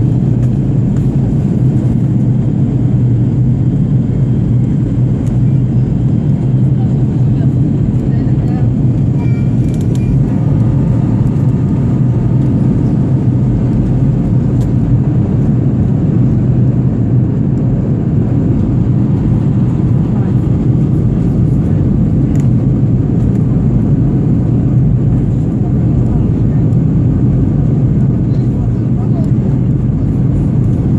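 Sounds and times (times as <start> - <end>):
airplane engine rumble: 0.0 - 30.9.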